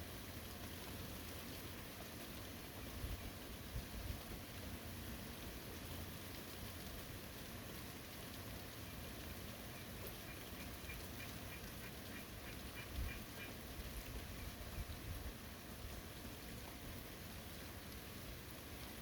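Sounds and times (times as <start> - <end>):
rain falling in forest: 0.0 - 19.0.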